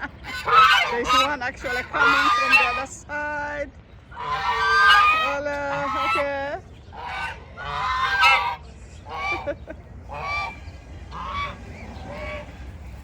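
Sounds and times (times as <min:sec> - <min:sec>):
geese honking: 0:00.0 - 0:03.0, 0:04.1 - 0:13.0.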